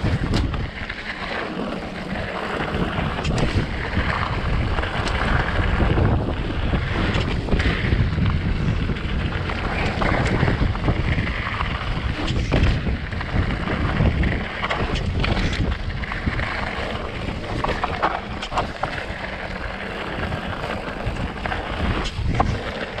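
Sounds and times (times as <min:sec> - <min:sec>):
bike clacking and rattling: 0:00.0 - 0:23.0
tyres rumbling on dirt trail: 0:00.0 - 0:23.0
wind buffeting microphone: 0:00.0 - 0:23.0.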